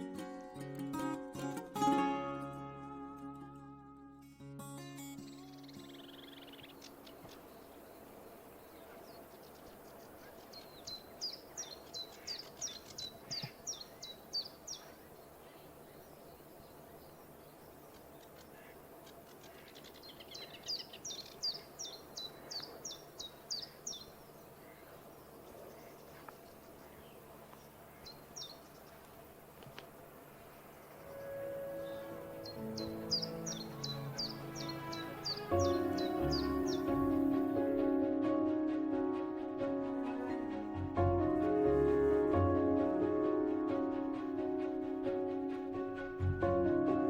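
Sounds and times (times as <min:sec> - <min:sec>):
faint steady background noise: 0:00.0 - 0:47.0
songbird singing: 0:04.8 - 0:47.0.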